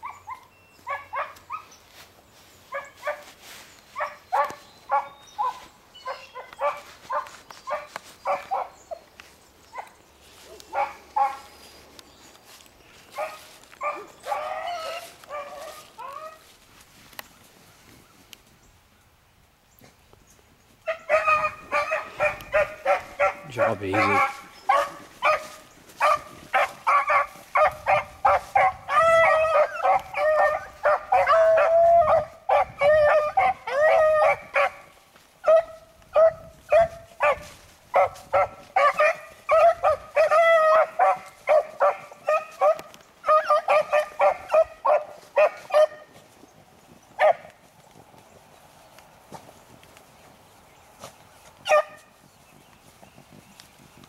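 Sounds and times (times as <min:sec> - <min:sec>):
hounds baying: 0:00.0 - 0:16.6, 0:20.8 - 0:46.4, 0:47.0 - 0:47.6, 0:51.5 - 0:52.2.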